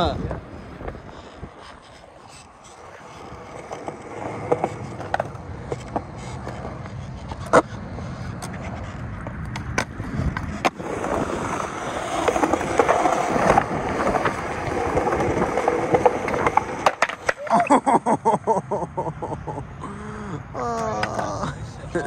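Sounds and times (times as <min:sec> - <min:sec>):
skateboard wheels rolling: 0:00.0 - 0:18.0, 0:20.8 - 0:22.0
skateboard clacks: 0:00.2 - 0:17.7, 0:20.8 - 0:21.4.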